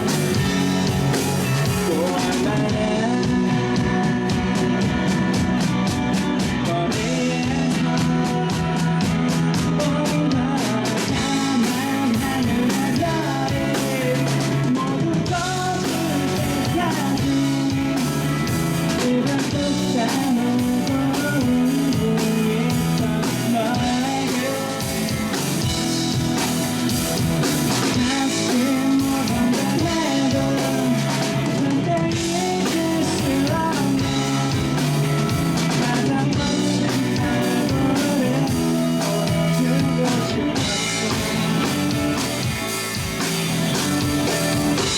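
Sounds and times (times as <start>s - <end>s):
person singing: 0.0s - 26.9s, 27.7s - 44.9s
drum kit: 0.0s - 44.9s
electric guitars: 0.0s - 44.9s.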